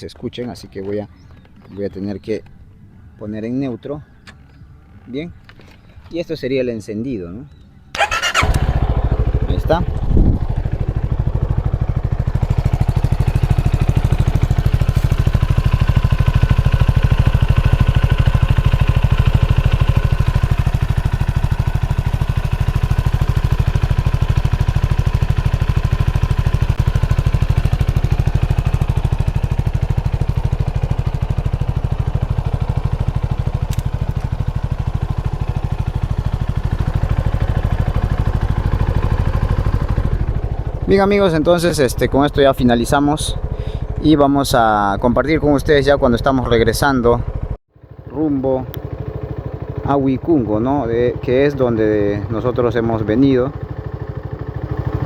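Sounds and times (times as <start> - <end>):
motorcycle engine idling: 7.5 - 55.0.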